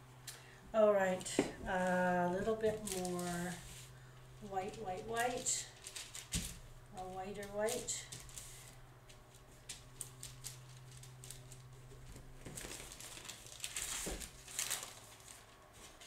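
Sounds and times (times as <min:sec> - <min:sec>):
thin sheet crinkling and rustling: 0:01.1 - 0:04.0, 0:04.7 - 0:16.0.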